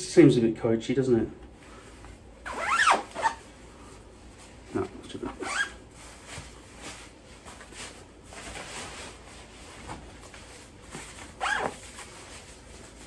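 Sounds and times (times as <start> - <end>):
nylon fabric rustling: 1.7 - 13.0.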